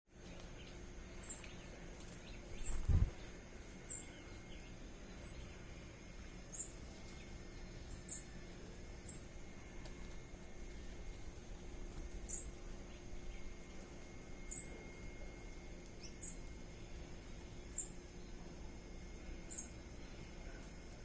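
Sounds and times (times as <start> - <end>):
faint background hum: 0.1 - 21.0.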